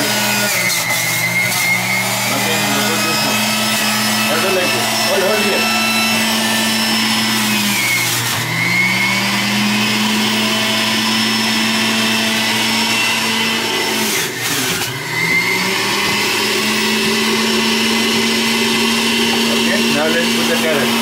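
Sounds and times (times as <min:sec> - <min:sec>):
juicer motor running: 0:00.0 - 0:21.0.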